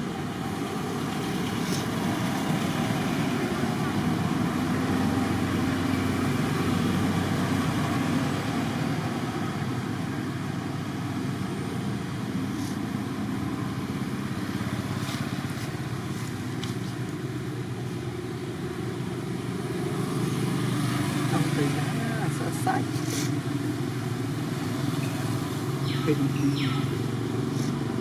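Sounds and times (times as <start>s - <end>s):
vehicle engine rumble: 0.0s - 28.0s.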